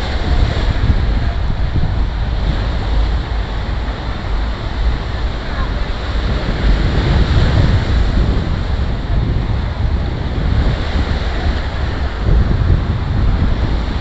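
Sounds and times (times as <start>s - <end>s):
ocean surf on beach: 0.0s - 14.0s
wind buffeting microphone: 0.0s - 14.0s.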